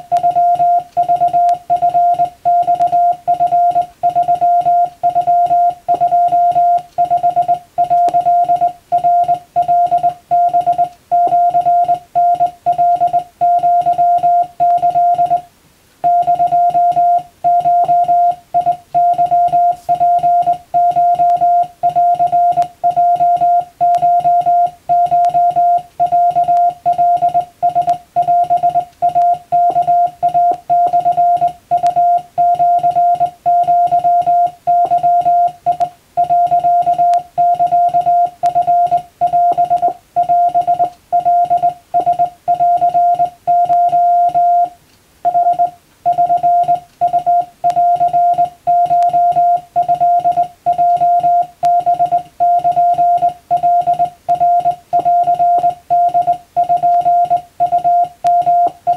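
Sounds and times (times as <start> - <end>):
morse code beeps: 0.0 - 58.9.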